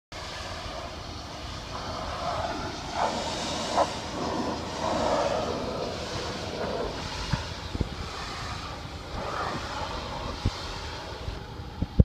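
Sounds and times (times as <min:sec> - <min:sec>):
pressure washer spraying metal roof: 0:00.2 - 0:12.0.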